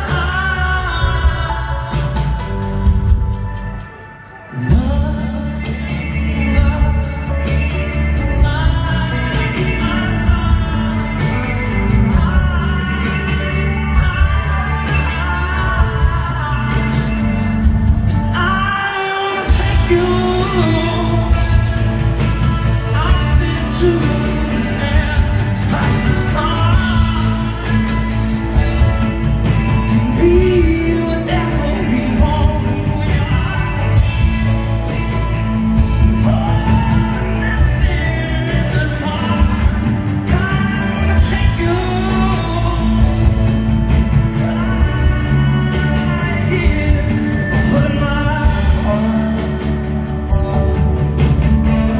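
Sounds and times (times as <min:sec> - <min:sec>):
drums: 0:00.0 - 0:51.9
electric guitars: 0:00.0 - 0:51.9
keyboard: 0:00.0 - 0:51.9
man singing lead vocals: 0:00.0 - 0:51.9.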